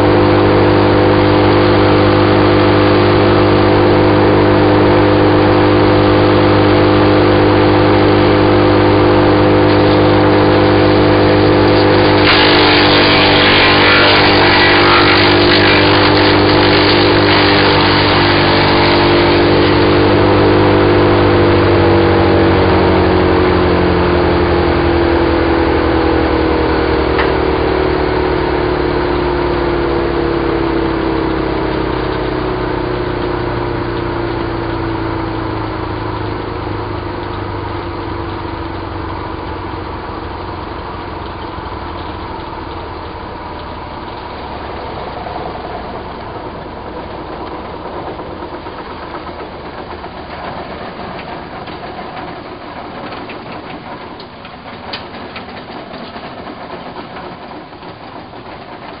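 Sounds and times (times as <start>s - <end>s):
wood chipper engine: 0.0s - 59.0s.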